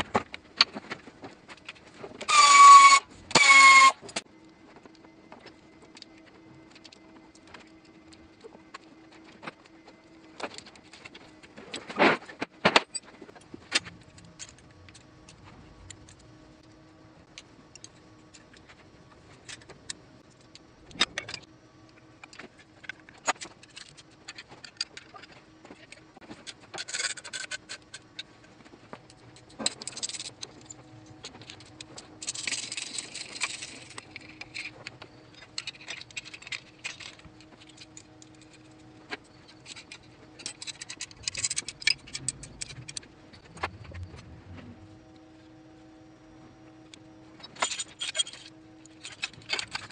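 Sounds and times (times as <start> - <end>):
hand tools and metal fittings clinking: 0.0 - 44.0, 46.9 - 49.9
faint steady hum: 0.0 - 49.9.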